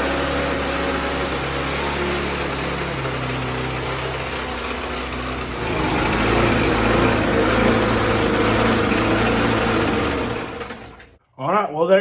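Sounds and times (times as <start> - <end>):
lawn mower engine running: 0.0 - 11.2.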